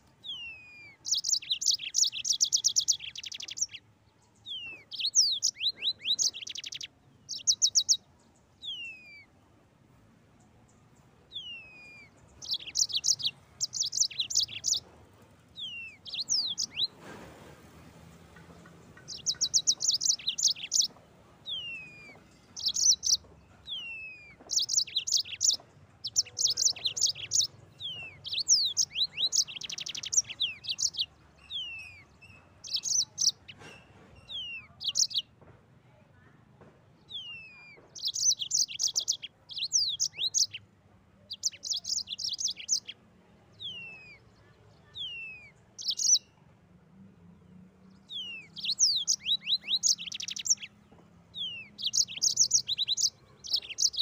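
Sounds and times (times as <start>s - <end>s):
canary singing trills and whistles: 0.2s - 3.8s, 4.4s - 9.3s, 11.3s - 14.8s, 15.6s - 17.0s, 19.0s - 35.3s, 37.1s - 40.7s, 41.3s - 46.4s, 47.9s - 54.0s.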